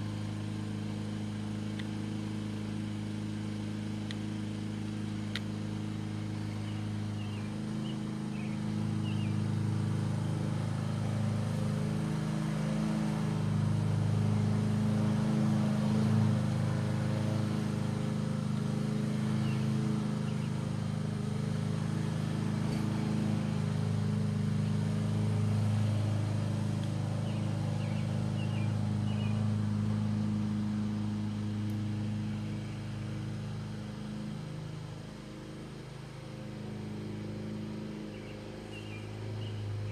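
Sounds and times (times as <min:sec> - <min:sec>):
low motor hum: 0:00.0 - 0:39.9.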